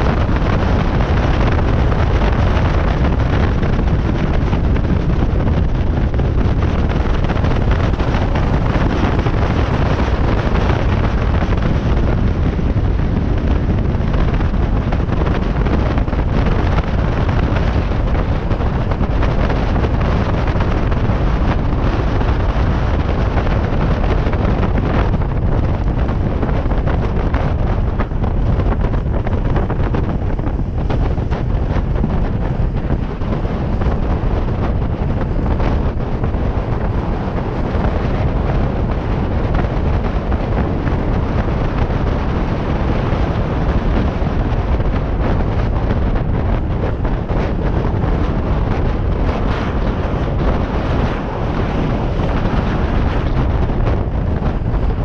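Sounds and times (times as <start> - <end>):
wheels rolling on rough asphalt: 0.0 - 55.0
wind rushing over microphone: 0.0 - 55.0.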